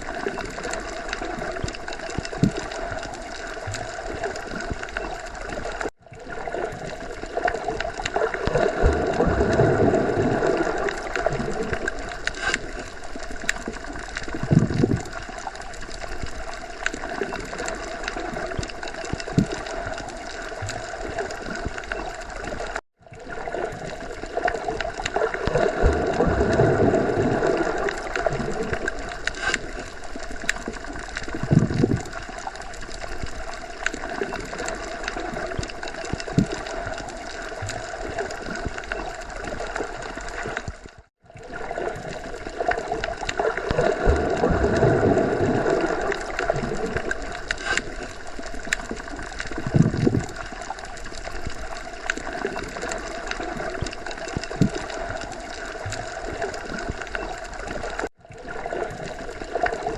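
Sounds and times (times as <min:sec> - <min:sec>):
underwater bubbling water: 0:00.0 - 0:59.9.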